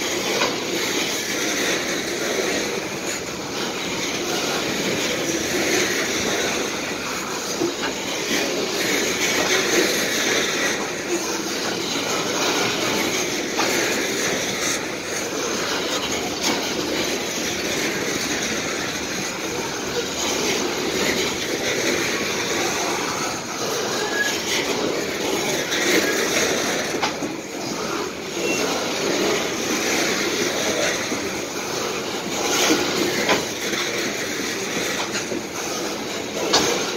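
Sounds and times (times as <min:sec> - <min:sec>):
clacks at rail joints: 0:00.0 - 0:36.9
freight train wheels rumbling: 0:00.0 - 0:36.9
wheel squeals: 0:00.0 - 0:36.9.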